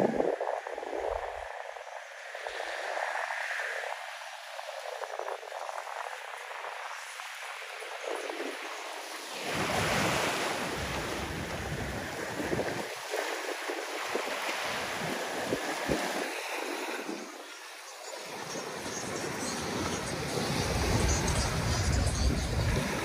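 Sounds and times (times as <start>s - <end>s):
waves washing onto sand: 0.0s - 23.0s
wind on microphone: 0.0s - 23.0s.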